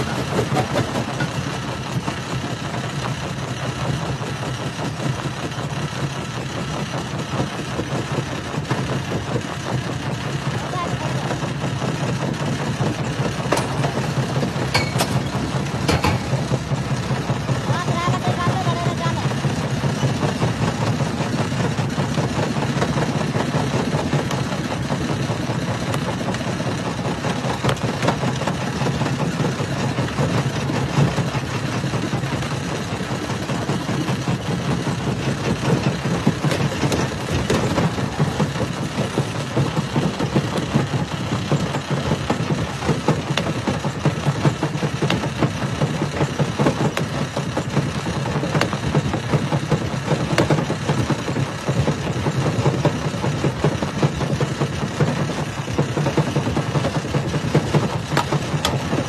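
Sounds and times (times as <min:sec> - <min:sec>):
jaw crusher humming: 0:00.0 - 0:59.0.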